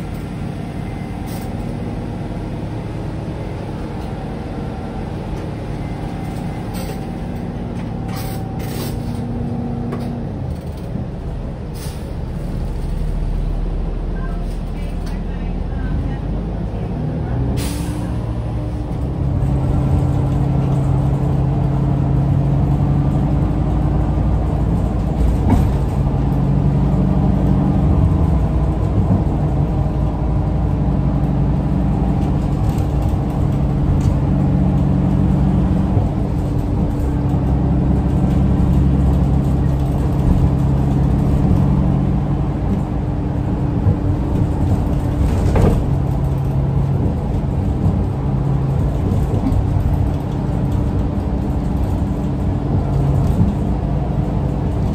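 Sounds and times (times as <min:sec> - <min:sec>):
bus engine hum: 0:00.0 - 0:54.9.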